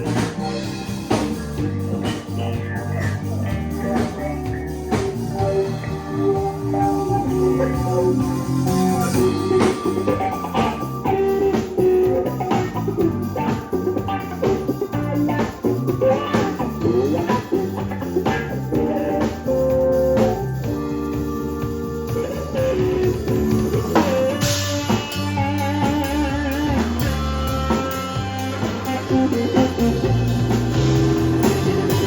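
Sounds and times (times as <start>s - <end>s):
bluesy rock band instrumental: 0.0s - 32.0s.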